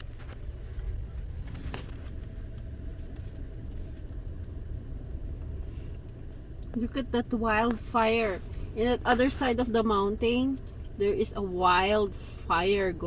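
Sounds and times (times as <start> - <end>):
vehicle rumble in motion: 0.0 - 13.0.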